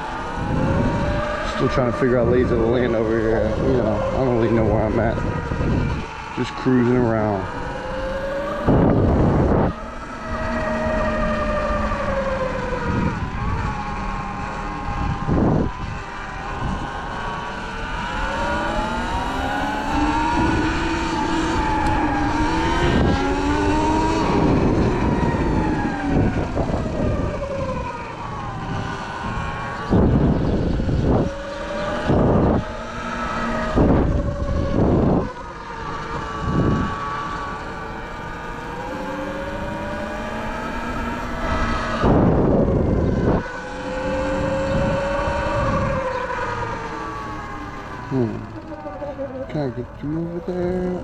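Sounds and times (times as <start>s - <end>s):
electric motorbike whining: 0.0s - 51.0s.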